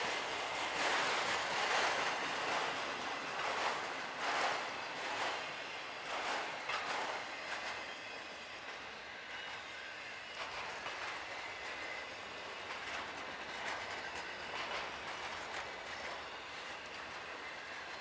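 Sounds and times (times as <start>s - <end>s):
clacks over rail joints: 0.0s - 18.0s
train wheels rolling: 0.0s - 18.0s.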